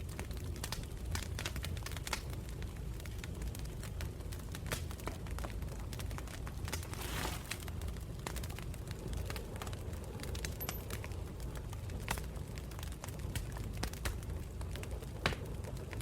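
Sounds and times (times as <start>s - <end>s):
campfire crackling and popping: 0.0s - 16.0s
low fire rumble: 0.0s - 16.0s.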